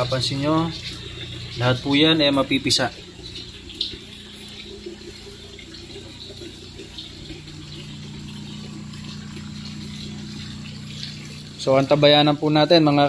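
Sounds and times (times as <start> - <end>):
low steady hum: 0.0 - 13.0
water spraying and splashing: 0.0 - 13.0.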